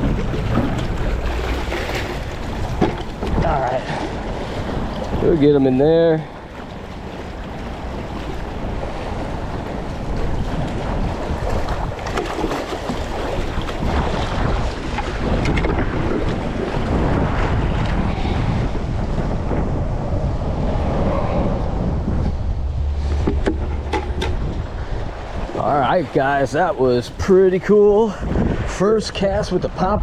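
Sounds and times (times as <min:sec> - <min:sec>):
water washing: 0:00.0 - 0:27.8
wind buffeting microphone: 0:00.0 - 0:30.0.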